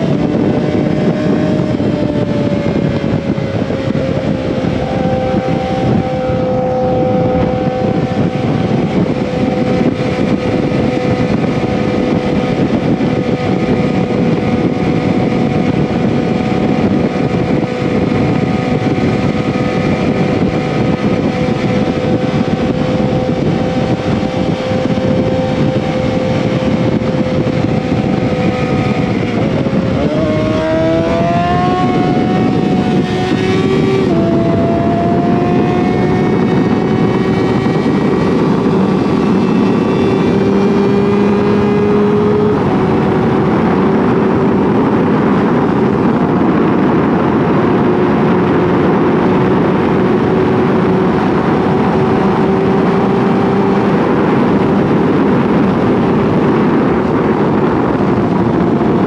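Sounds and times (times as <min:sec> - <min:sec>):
motorcycle engine at speed: 0:00.0 - 0:59.0
road noise: 0:00.0 - 0:59.0
wind rush: 0:00.0 - 0:59.0.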